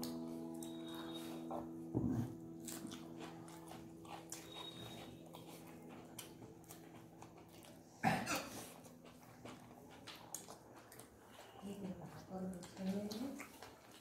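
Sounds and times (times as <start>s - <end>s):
chewing and lip smacking: 2.4s - 14.0s.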